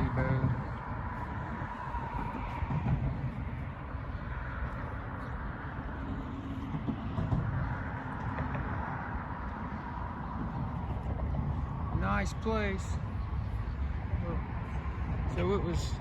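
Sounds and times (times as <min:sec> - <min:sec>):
road traffic rumble: 0:00.0 - 0:16.0
vehicles passing: 0:00.0 - 0:16.0
wind buffeting microphone: 0:00.0 - 0:16.0.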